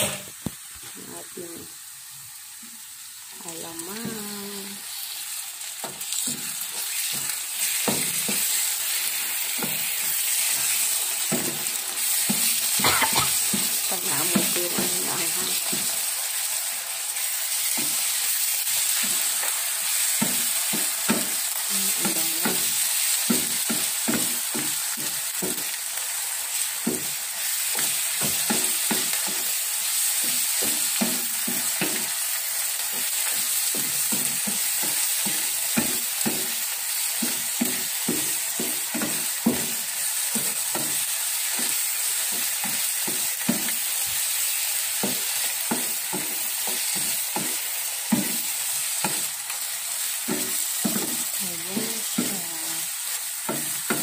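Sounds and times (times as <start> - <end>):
sizzling in hot oil: 0.0 - 54.0.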